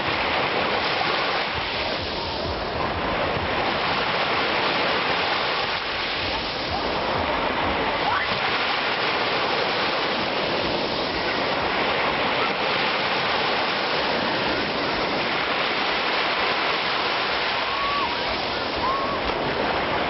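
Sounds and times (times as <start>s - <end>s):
surf washing onto beach: 0.0s - 20.0s.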